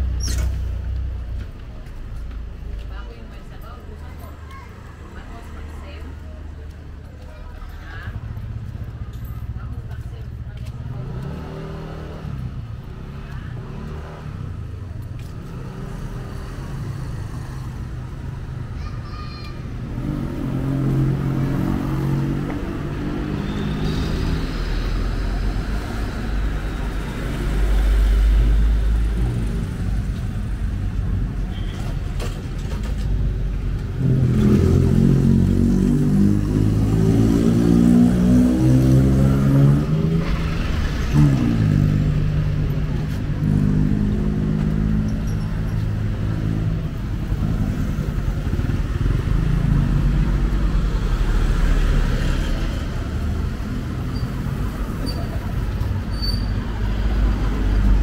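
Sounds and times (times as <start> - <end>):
vehicles passing: 0.0 - 58.0.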